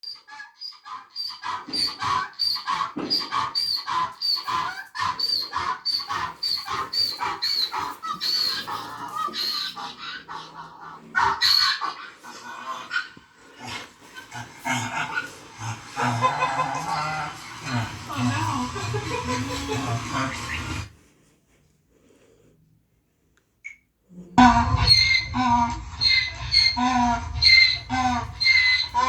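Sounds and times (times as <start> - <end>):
donkey braying: 0.9 - 20.9, 24.4 - 29.0.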